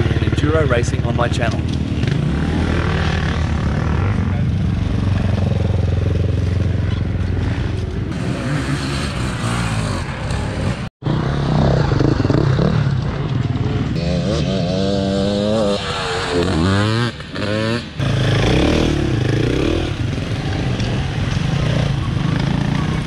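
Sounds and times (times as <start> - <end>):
dirt bike engines racing: 0.0 - 23.0
dirt bike revving: 0.0 - 23.0.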